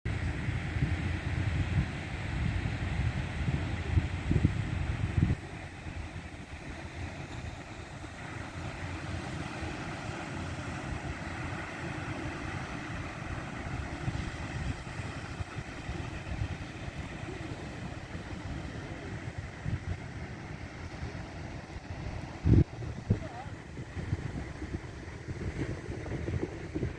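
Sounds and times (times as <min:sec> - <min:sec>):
sea surf: 0:00.1 - 0:26.9
wind buffeting microphone: 0:00.1 - 0:26.9.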